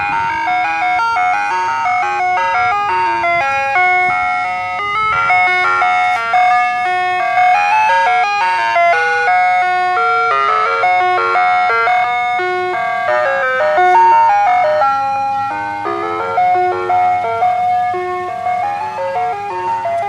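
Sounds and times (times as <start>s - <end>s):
ice cream truck jingle: 0.0s - 20.0s.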